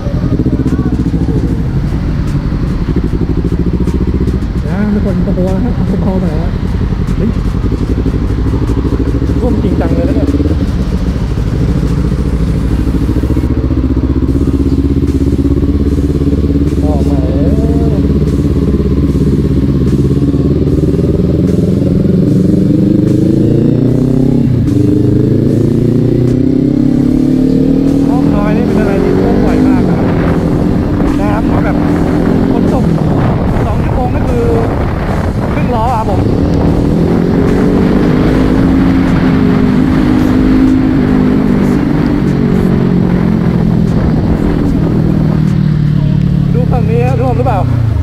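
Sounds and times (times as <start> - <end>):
motorcycle engine revving: 0.0 - 48.0
wind and road noise: 0.0 - 48.0.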